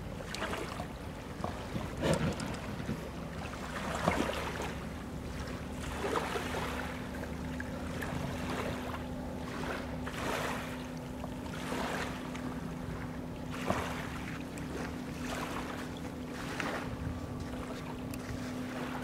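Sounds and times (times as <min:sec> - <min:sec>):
small waves lapping and splashing: 0:00.0 - 0:19.0
steady low hum: 0:00.0 - 0:19.0.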